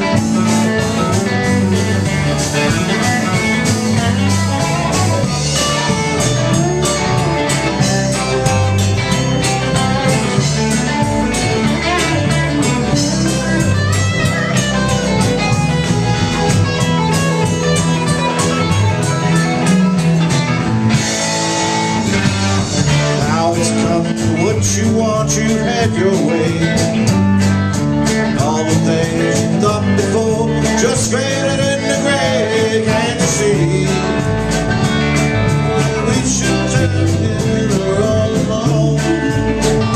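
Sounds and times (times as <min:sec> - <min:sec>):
drum kit beat: 0:00.0 - 0:39.9
live rock band: 0:00.0 - 0:39.9.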